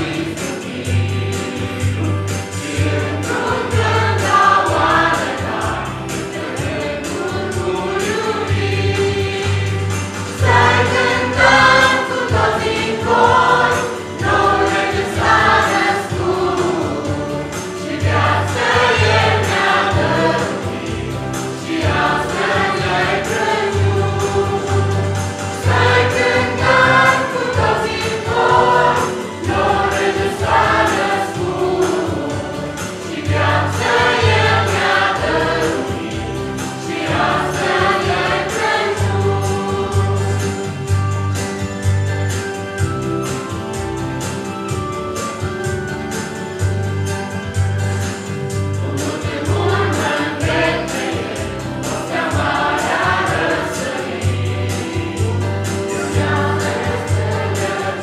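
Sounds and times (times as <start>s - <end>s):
choir singing: 0.0s - 41.1s, 48.7s - 58.0s
low instrumental accompaniment: 0.0s - 58.0s.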